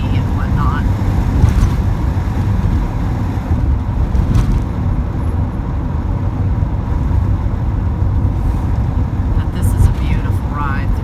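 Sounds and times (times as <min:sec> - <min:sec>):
road noise: 0:00.0 - 0:11.0
van engine running: 0:00.0 - 0:11.0.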